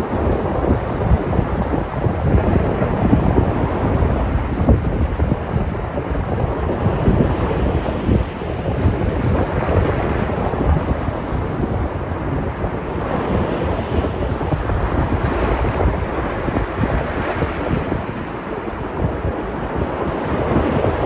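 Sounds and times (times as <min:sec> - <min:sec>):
sea surf washing ashore: 0:00.0 - 0:21.0
wind buffeting microphone: 0:00.0 - 0:21.0.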